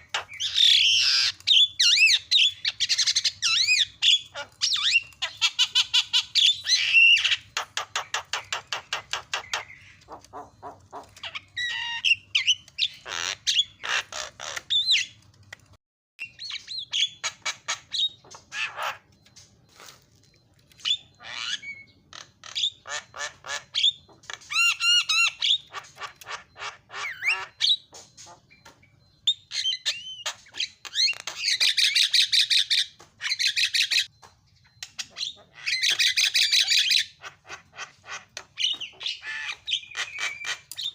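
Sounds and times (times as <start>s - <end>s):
myna bird chattering: 0.0s - 19.9s, 20.7s - 40.9s.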